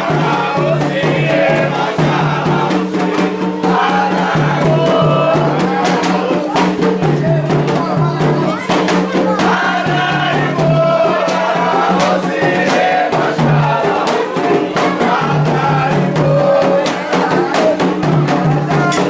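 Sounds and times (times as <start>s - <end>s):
hand drum and percussion: 0.0s - 19.0s
voices singing a chant: 0.0s - 19.0s.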